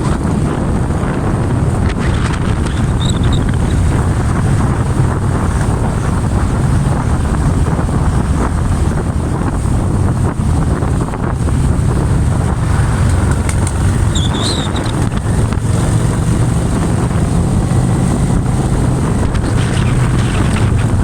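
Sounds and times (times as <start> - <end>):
motorbike engine running: 0.0 - 21.0
wind noise on microphone: 0.0 - 21.0.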